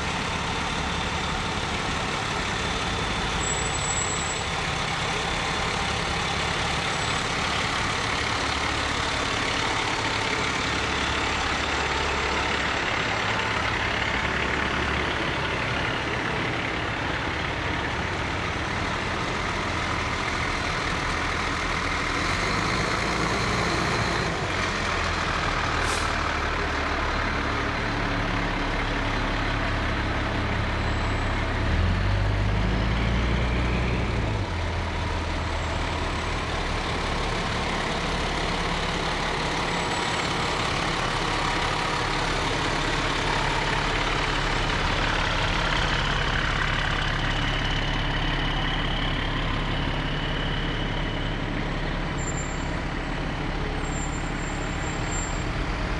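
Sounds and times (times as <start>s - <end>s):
fire truck engines rumbling: 0.0s - 55.9s.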